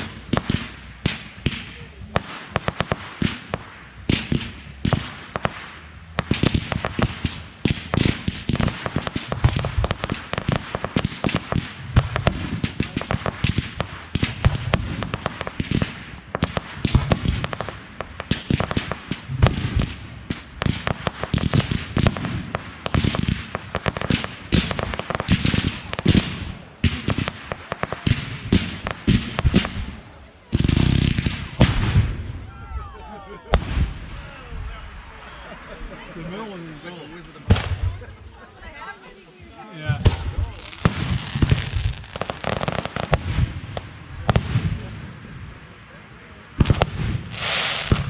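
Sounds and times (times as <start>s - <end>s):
deep fireworks booms: 0.0s - 38.4s, 39.9s - 48.0s
fireworks bursts and crackling: 0.0s - 48.0s.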